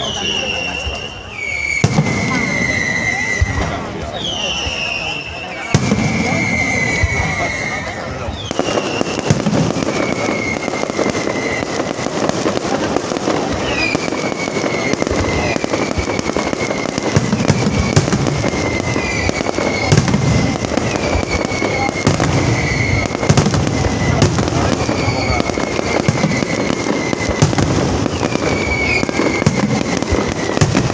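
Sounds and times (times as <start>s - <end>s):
falling firework whistles: 0.0s - 30.9s
fireworks booms: 0.0s - 30.9s
fireworks crackling: 0.0s - 30.9s.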